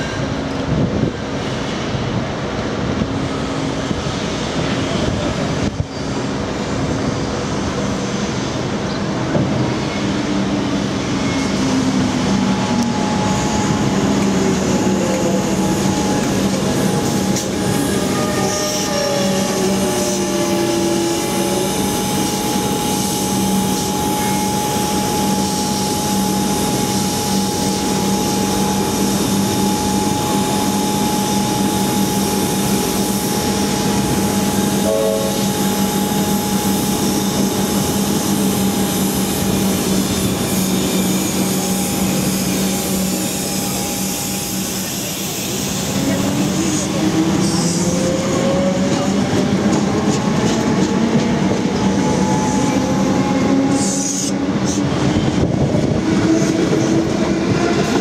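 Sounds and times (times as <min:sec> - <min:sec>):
train whine slowing: 0:00.0 - 0:58.0.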